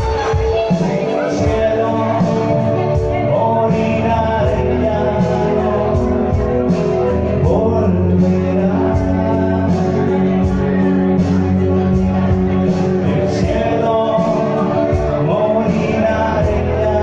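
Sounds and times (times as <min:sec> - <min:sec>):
guitar: 0:00.0 - 0:17.0
man singing: 0:00.0 - 0:17.0.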